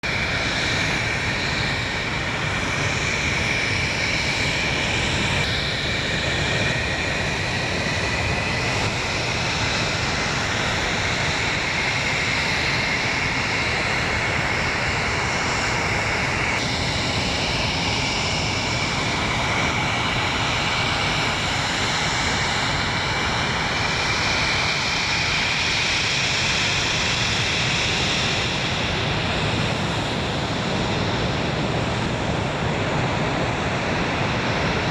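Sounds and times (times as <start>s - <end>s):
jet engines whining and rushing: 0.0s - 34.9s.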